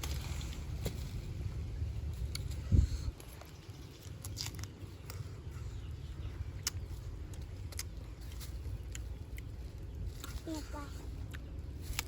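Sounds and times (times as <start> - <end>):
low background rumble: 0.0 - 12.0
chewing crisp mango: 2.0 - 12.0.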